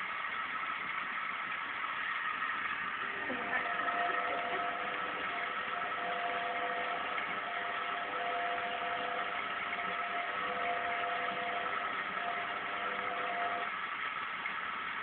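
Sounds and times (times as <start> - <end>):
faint whine: 0.0 - 13.8
washing machine running: 0.0 - 15.0.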